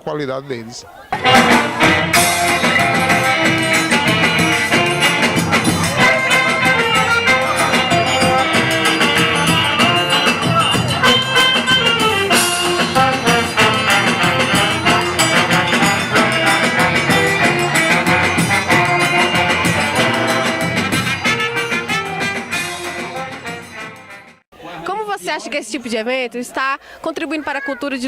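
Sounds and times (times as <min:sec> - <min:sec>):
live brass band music: 0:01.2 - 0:24.4.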